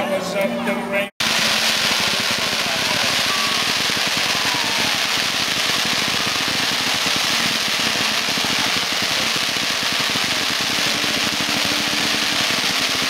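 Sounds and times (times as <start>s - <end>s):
fireworks crackling hiss: 1.2s - 13.0s.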